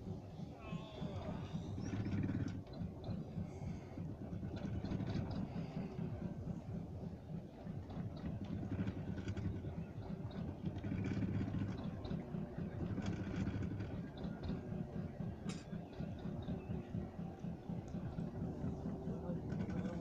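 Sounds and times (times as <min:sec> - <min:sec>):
motor engine running: 0:00.0 - 0:20.0.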